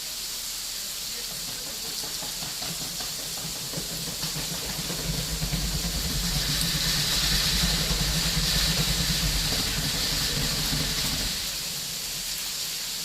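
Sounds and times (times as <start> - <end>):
heavy rain hissing: 0.0 - 13.0
vehicle engine rumble approaching: 1.2 - 12.7.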